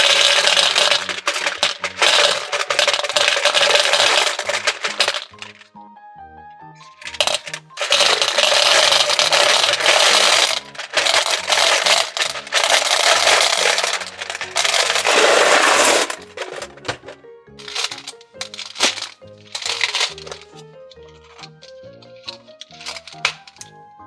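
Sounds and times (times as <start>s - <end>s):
gumballs rattling into machine: 0.0s - 5.7s, 6.8s - 23.7s
background music: 0.0s - 24.0s.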